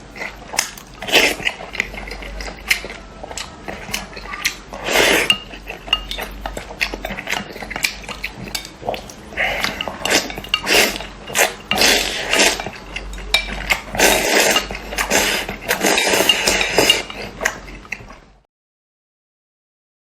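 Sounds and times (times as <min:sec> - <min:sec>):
wet mouth eating noises: 0:00.0 - 0:18.4
cutlery clinking against bowl: 0:00.6 - 0:18.1.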